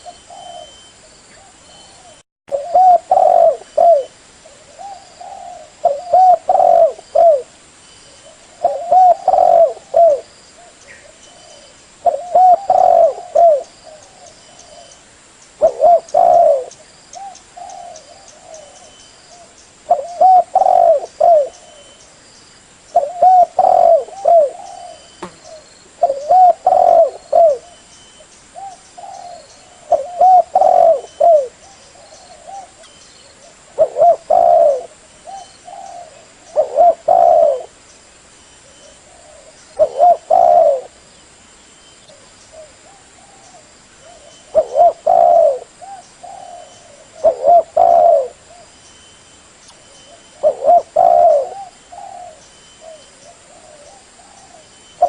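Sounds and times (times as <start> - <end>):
dove cooing: 0.0 - 7.5, 8.2 - 15.0, 15.6 - 22.0, 23.0 - 27.8, 28.6 - 37.8, 38.6 - 41.0, 42.1 - 48.8, 49.9 - 54.7.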